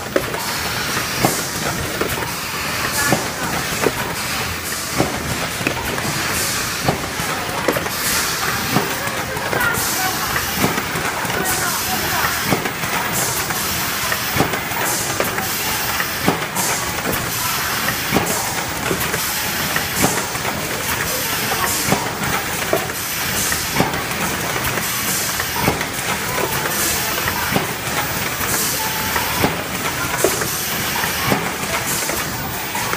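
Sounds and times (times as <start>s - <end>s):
packaging machine clattering: 0.0s - 32.9s.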